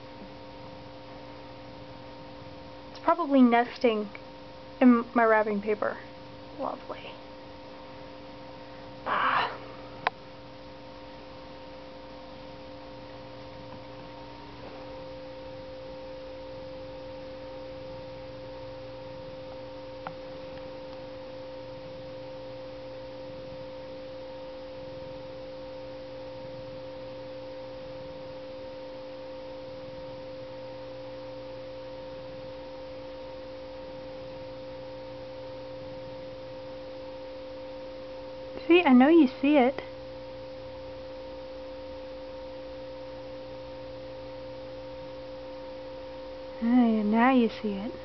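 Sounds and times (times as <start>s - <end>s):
steady pitched hum: 0.0s - 48.0s.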